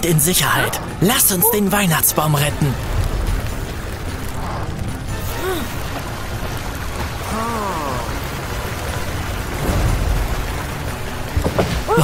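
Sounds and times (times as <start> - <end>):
background music: 0.0 - 12.0
water spraying from hose: 0.2 - 12.0.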